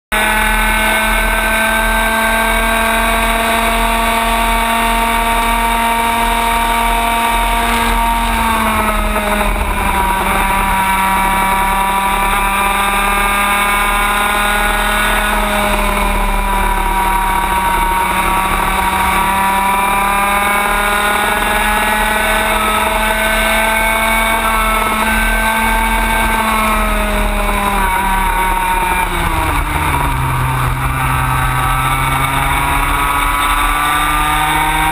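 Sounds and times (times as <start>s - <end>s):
kart engine at high revs: 0.1s - 34.9s
road rumble: 0.1s - 34.9s
wind: 0.1s - 34.9s.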